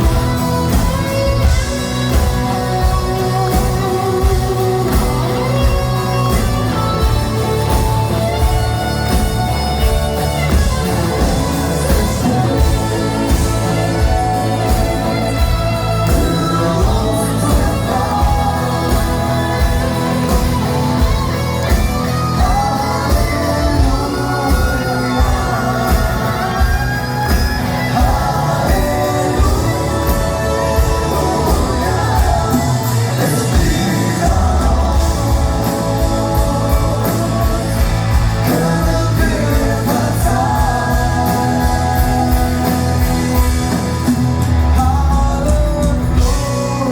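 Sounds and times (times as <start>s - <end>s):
live rock band playing: 0.0s - 46.9s
person singing: 0.0s - 46.9s.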